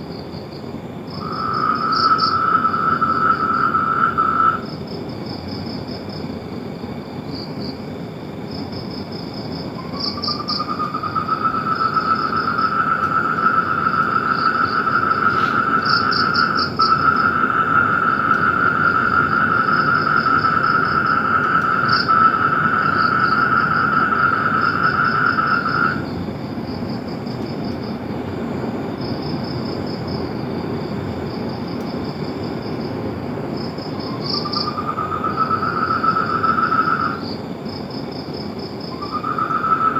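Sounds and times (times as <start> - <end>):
animals chirping in pulsed trains: 1.1 - 39.9.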